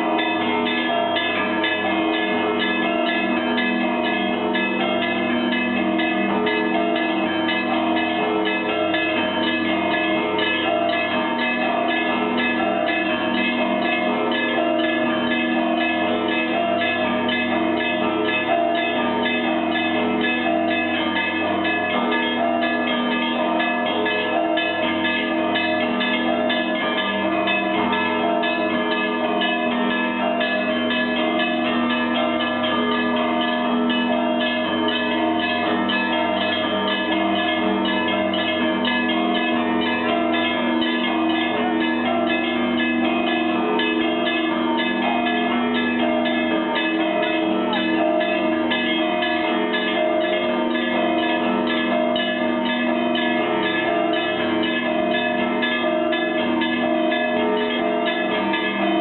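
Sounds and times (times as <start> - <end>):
church bells pealing: 0.0 - 59.0
steady low bell tone: 0.0 - 59.0.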